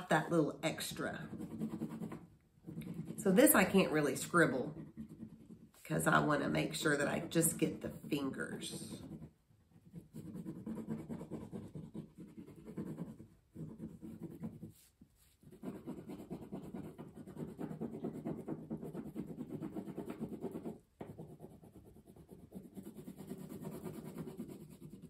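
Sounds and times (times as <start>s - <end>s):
crayon rubbing on paper: 0.0s - 25.0s.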